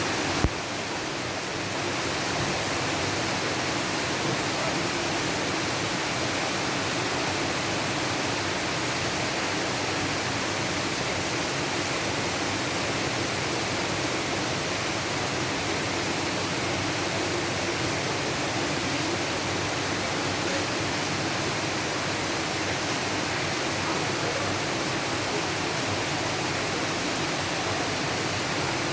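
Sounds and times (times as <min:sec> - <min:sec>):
rain falling steadily: 0:00.0 - 0:28.9.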